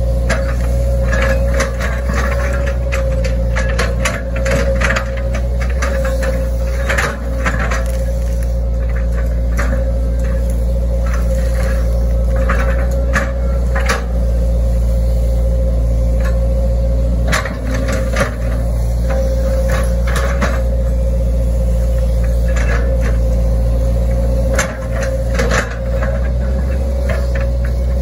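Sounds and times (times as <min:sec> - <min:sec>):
excavator diesel engine running: 0:00.0 - 0:28.0
steady whine: 0:00.0 - 0:28.0.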